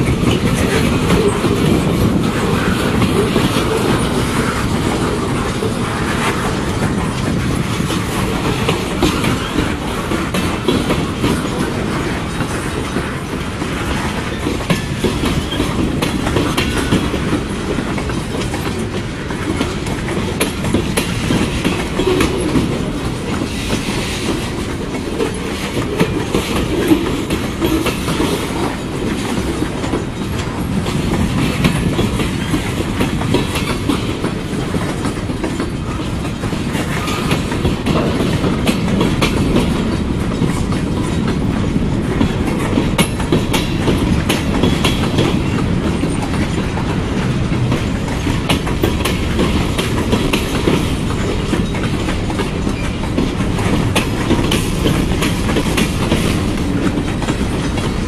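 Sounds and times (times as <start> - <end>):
freight train rolling past: 0.0 - 58.0
steel wheels clacking over rails: 0.0 - 58.0.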